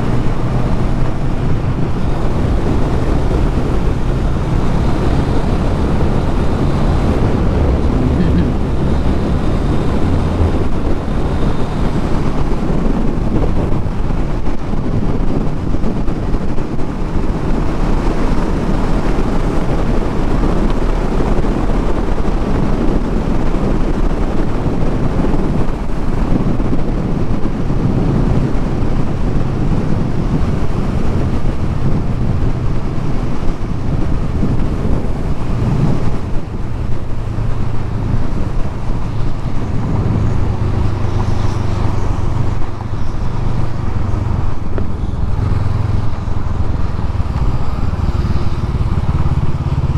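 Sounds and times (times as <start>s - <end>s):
motorcycle engine cruising: 0.0s - 49.9s
wind buffeting microphone: 0.0s - 49.9s.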